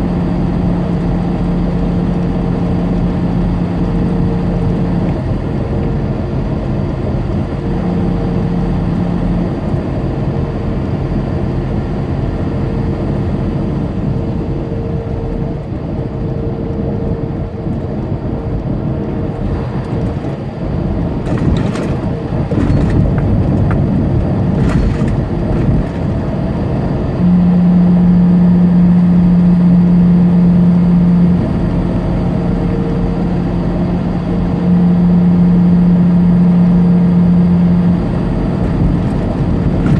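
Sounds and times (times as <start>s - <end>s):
diesel engine drone: 0.0s - 39.9s
road rumble: 0.0s - 39.9s.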